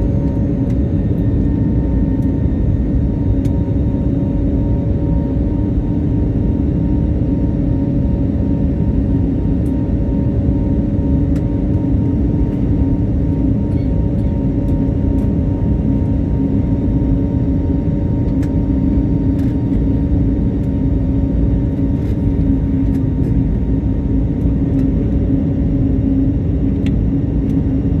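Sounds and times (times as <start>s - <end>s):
airliner engines droning: 0.0s - 28.0s.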